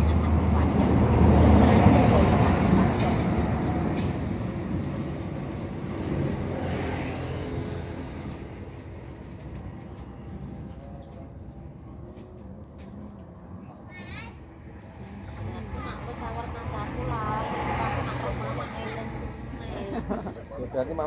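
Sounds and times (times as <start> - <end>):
vehicle passing by: 0.0 - 10.8, 14.4 - 21.0.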